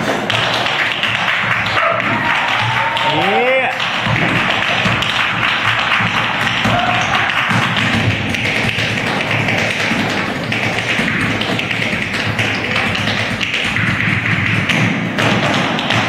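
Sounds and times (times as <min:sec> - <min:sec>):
tap shoes striking stage floor: 0:00.0 - 0:16.0.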